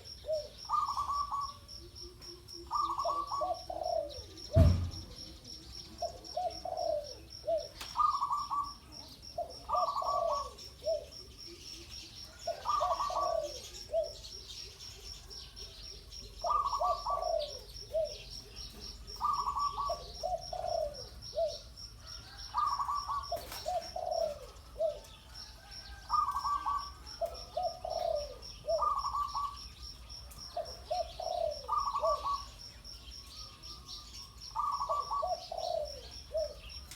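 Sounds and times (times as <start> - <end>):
dove cooing: 0.0 - 36.9
high insect trill: 0.0 - 36.9.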